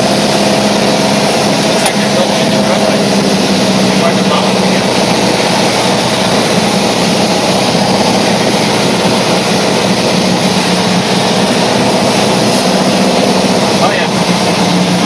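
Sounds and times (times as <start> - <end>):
steady machine rush with low hum: 0.0 - 15.0.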